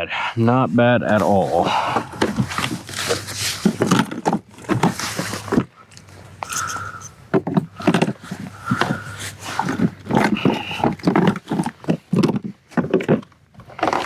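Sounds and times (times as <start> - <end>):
fish knocking and scraping on kayak: 1.1 - 14.0.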